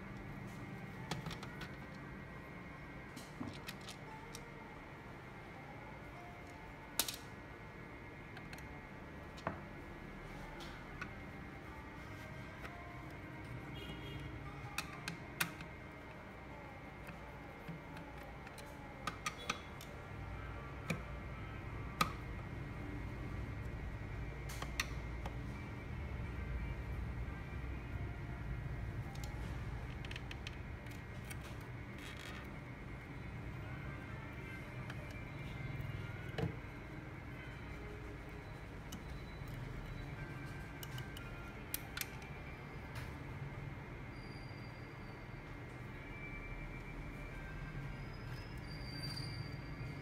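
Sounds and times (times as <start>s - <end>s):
low steady hum: 0.0s - 48.7s.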